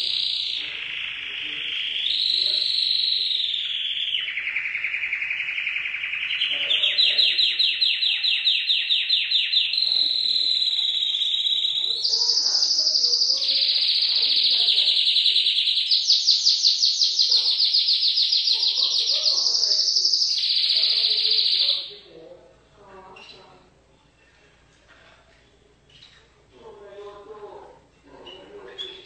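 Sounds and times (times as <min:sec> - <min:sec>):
canary singing trills: 0:00.0 - 0:23.6, 0:25.9 - 0:29.0.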